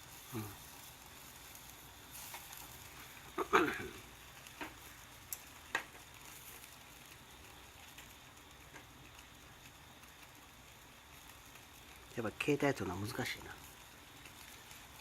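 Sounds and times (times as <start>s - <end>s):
meat sizzling on a grill: 0.0s - 15.0s
sharp crackles: 0.0s - 15.0s.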